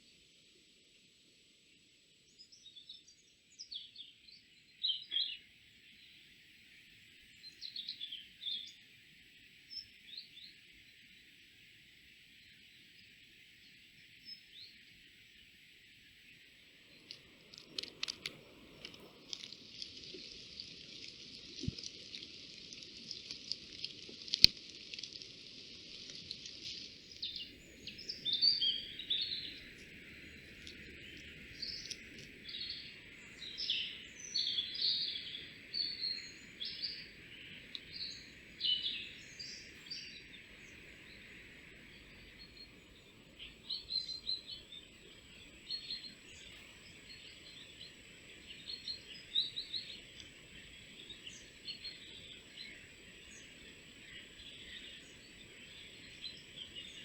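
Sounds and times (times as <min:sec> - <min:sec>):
songbirds chirping: 0:01.7 - 0:23.8, 0:25.9 - 0:57.0
steady hiss: 0:04.6 - 0:57.0.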